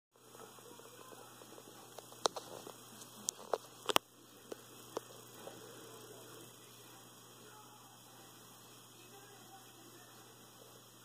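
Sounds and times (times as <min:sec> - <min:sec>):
steady electrical hum: 0:00.1 - 0:11.0.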